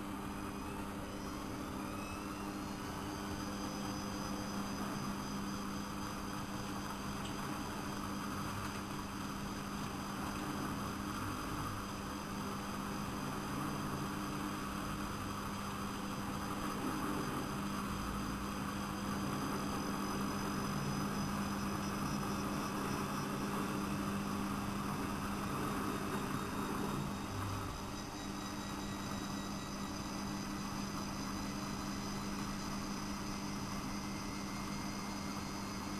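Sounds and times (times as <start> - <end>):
washing machine motor hum: 0.0 - 35.9.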